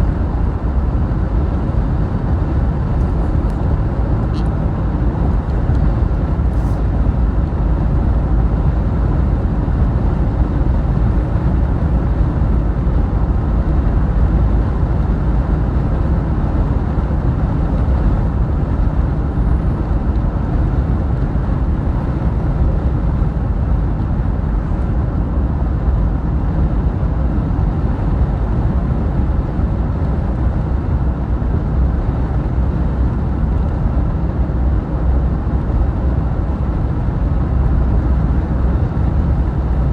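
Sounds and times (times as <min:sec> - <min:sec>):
vehicle road and engine rumble: 0:00.0 - 0:39.9.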